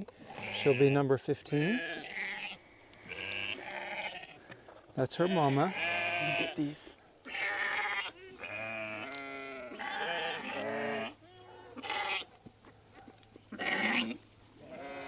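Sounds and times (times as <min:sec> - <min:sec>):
sheep and lamb bleating: 0:00.2 - 0:04.5, 0:05.1 - 0:12.3, 0:13.5 - 0:15.0.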